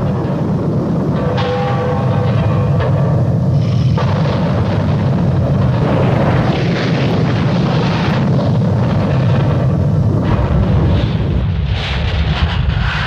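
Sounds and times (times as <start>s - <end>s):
steady low rumble: 0.0s - 13.0s
wind buffeting microphone: 0.0s - 13.0s.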